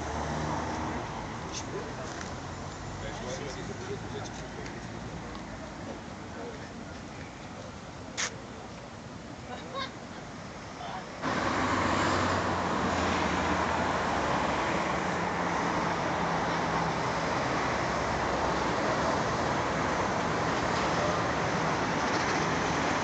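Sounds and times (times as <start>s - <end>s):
passing cars: 0.0s - 6.6s, 9.7s - 23.0s.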